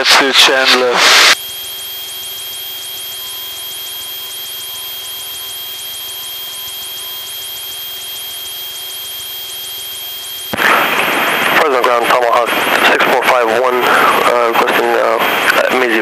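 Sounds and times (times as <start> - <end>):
thin high tone: 0.0 - 14.8
plane engine and propeller droning: 0.0 - 16.0.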